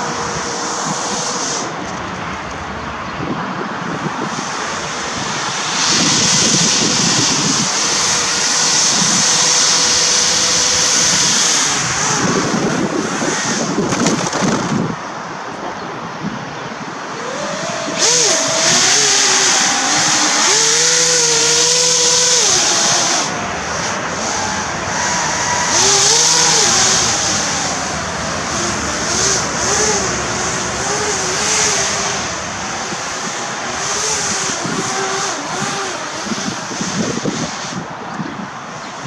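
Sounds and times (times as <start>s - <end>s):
air rushing: 0.0s - 39.0s
propeller motors whirring: 0.0s - 39.0s.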